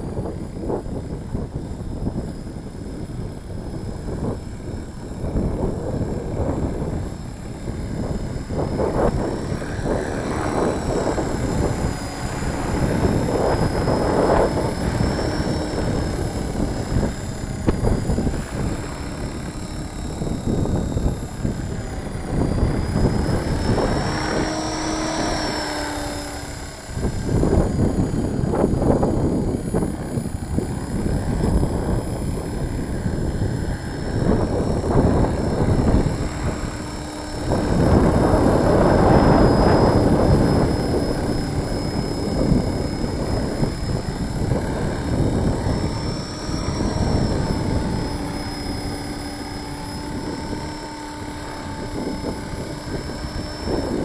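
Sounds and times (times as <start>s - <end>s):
rc helicopter rotor whine: 0.0s - 54.0s
wind buffeting microphone: 0.0s - 54.0s.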